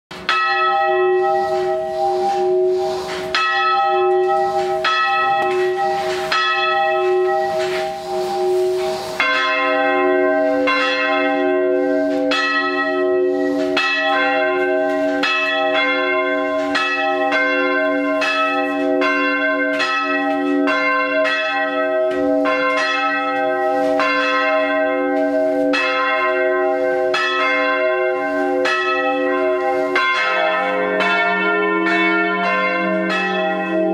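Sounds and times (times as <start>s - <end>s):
church bell ringing: 0.1s - 33.9s
deeper church bell: 0.1s - 33.9s.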